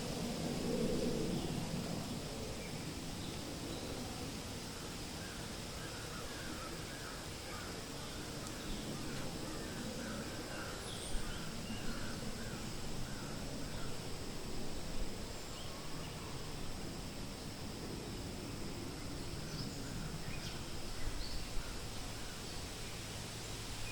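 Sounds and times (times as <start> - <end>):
wind-like hiss: 0.0 - 23.9.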